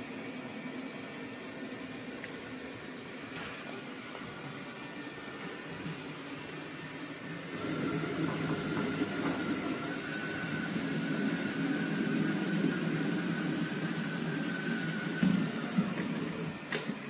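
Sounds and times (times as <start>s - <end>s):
robot vacuum motor and brushes: 0.0s - 17.0s.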